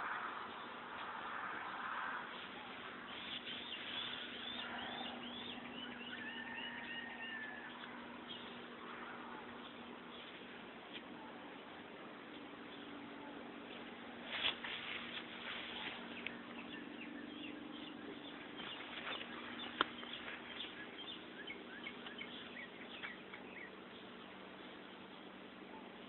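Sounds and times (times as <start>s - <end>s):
birds chirping: 0.0s - 26.0s
steady low hum: 0.0s - 26.0s.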